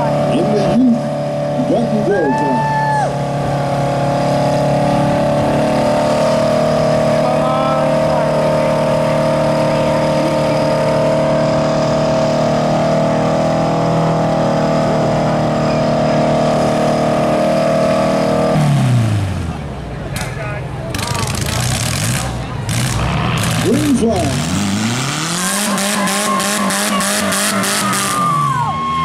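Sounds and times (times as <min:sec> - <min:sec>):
car engines idling: 0:00.0 - 0:29.0.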